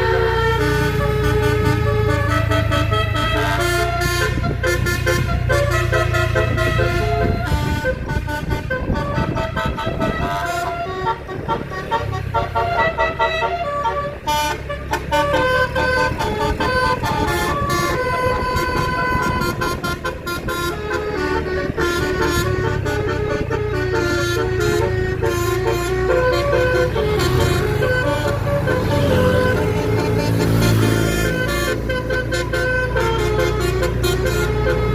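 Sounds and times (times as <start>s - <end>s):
bus engine rumble: 0.0s - 34.9s
musical air horn melody: 0.0s - 34.9s.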